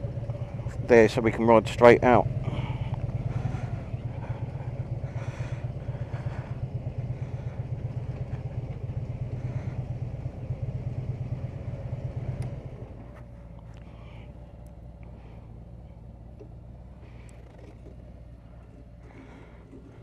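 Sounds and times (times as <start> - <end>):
motorcycle engine idling: 0.0 - 20.0
quieter engine idling: 0.0 - 20.0.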